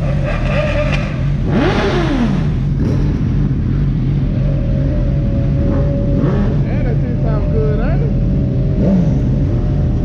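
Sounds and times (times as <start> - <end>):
motorcycle engine revving: 0.0 - 10.0
motorcycle engines idling: 0.0 - 10.0.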